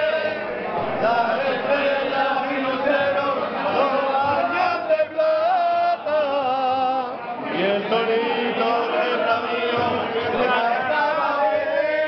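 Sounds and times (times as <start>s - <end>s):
men singing folk song: 0.0s - 12.0s.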